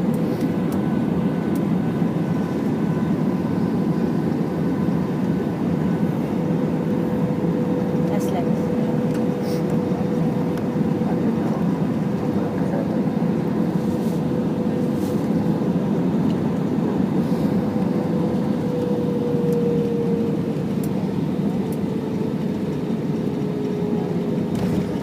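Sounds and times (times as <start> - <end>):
jet engines and rushing air: 0.0 - 25.0
steady cabin hum: 0.0 - 25.0.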